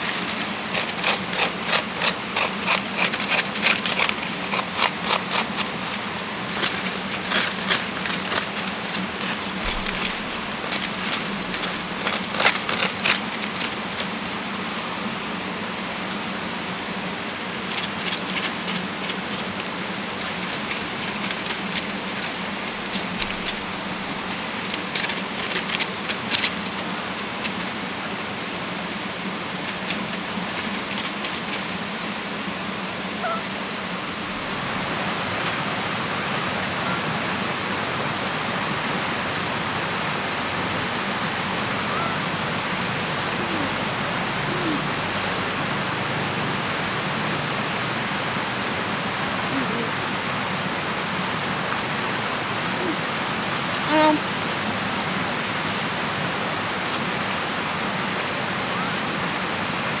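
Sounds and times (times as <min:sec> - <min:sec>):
stream water rushing: 0:00.0 - 1:00.0.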